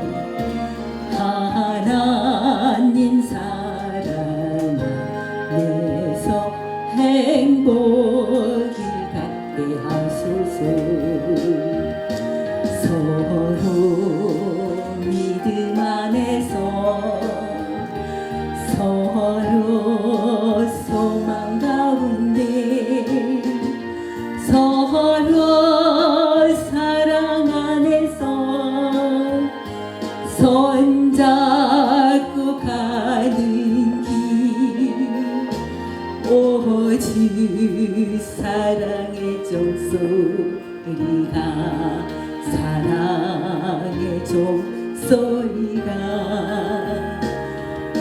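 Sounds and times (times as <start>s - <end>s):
instrumental accompaniment: 0.0s - 48.0s
person singing a hymn with vibrato: 0.0s - 48.0s.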